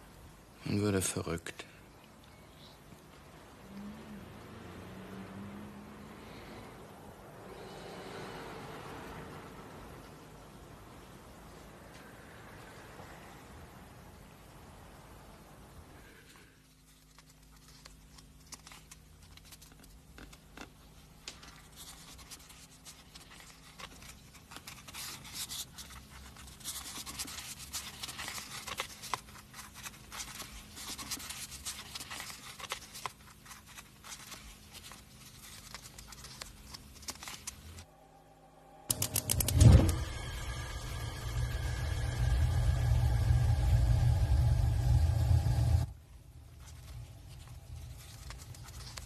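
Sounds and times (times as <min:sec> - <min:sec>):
faint low hum: 0:00.0 - 0:49.0.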